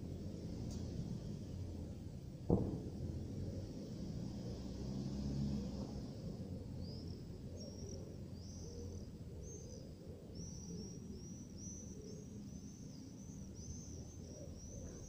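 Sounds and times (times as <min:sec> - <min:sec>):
distant city noise: 0:00.0 - 0:15.0.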